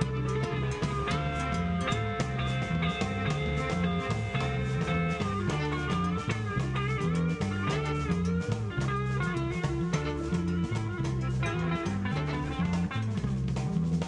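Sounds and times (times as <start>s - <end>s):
bass line: 0.0s - 14.0s
drums: 0.0s - 14.0s
electric guitar lead: 0.0s - 14.0s.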